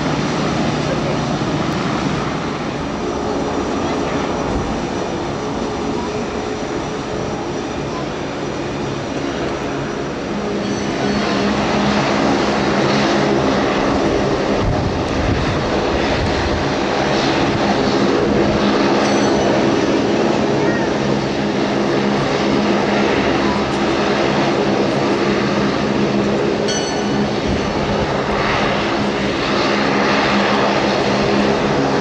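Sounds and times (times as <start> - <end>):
jet engines whine and rumble: 0.0 - 32.0.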